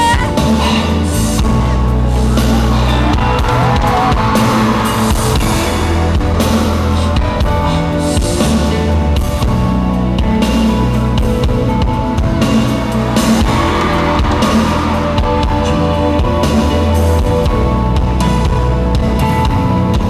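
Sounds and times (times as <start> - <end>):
live rock concert music: 0.0 - 20.0.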